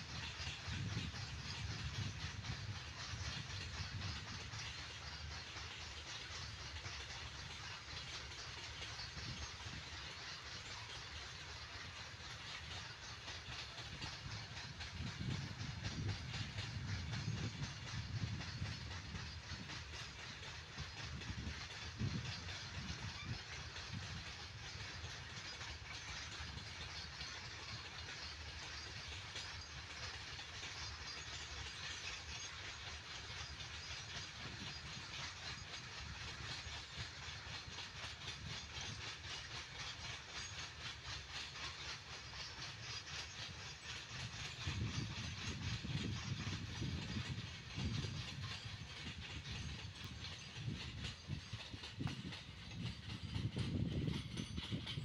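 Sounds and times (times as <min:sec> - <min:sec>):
freight wagons rumbling past: 0:00.0 - 0:55.0
wheels hissing on rails: 0:00.0 - 0:55.0.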